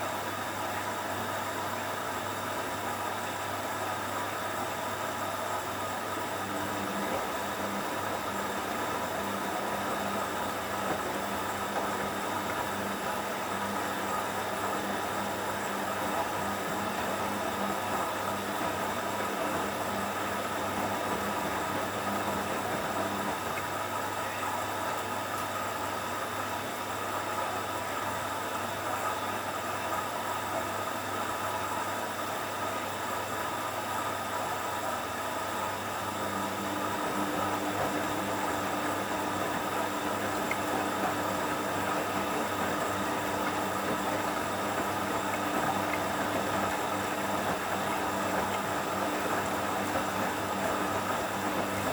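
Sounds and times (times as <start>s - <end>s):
washing machine motor hum: 0.0s - 51.9s.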